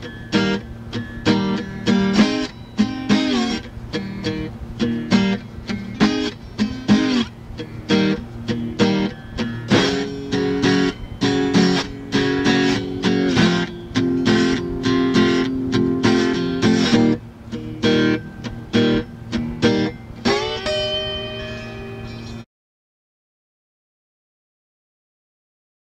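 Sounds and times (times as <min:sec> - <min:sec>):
guitar plucking chords: 0:00.0 - 0:22.4.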